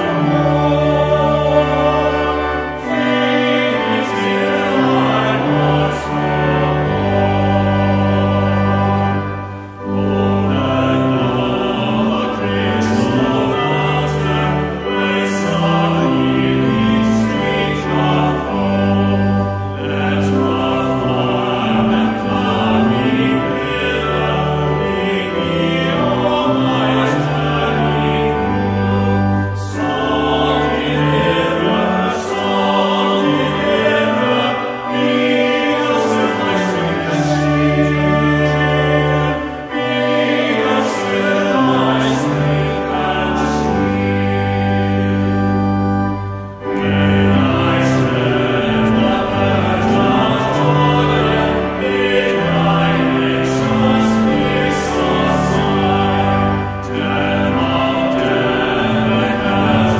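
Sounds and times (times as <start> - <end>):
men's choir singing a hymn: 0.0 - 59.9.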